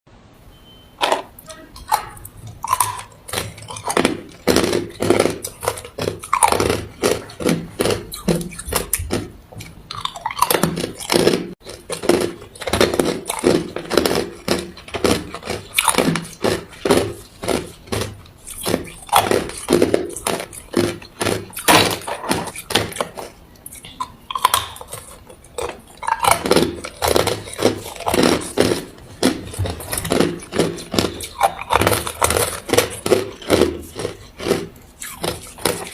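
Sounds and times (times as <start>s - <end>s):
person chewing ice: 1.0s - 35.9s.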